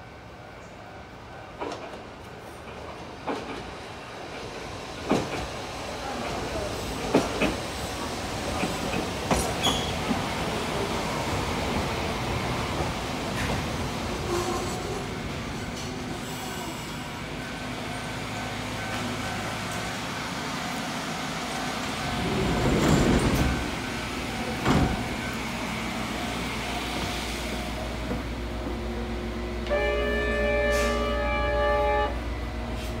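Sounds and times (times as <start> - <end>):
train low hum: 0.0 - 33.0.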